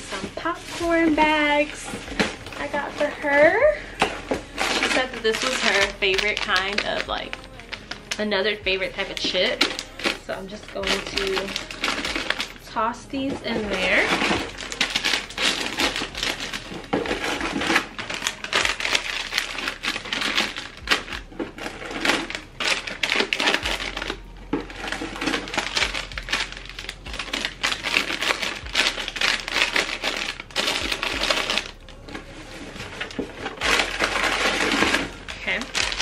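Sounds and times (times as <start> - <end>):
plastic packets crinkling: 0.0 - 36.0.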